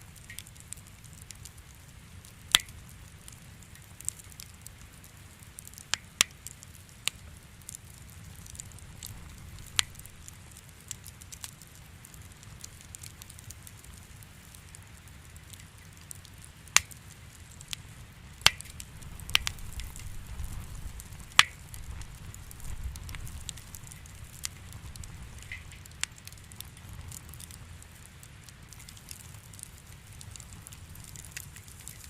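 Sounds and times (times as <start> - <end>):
low rumble of flames: 0.0 - 32.0
wood fire crackling: 0.0 - 32.0.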